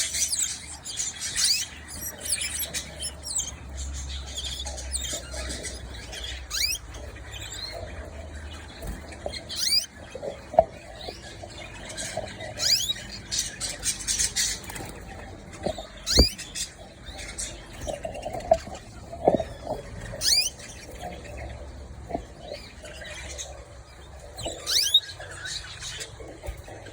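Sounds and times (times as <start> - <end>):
canaries chirping: 0.0 - 26.9.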